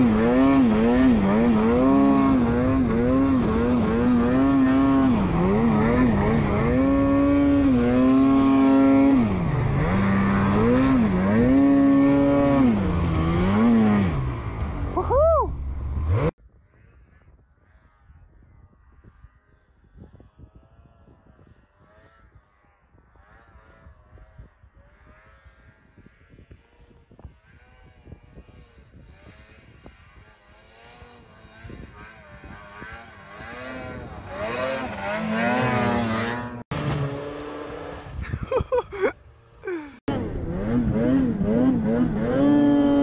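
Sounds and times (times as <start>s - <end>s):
distant snowmobile engines revving: 0.0s - 16.4s, 21.6s - 43.0s.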